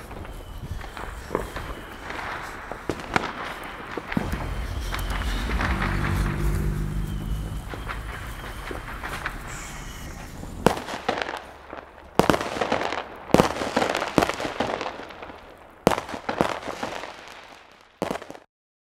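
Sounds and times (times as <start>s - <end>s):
fireworks bangs with crackling: 0.0s - 18.5s.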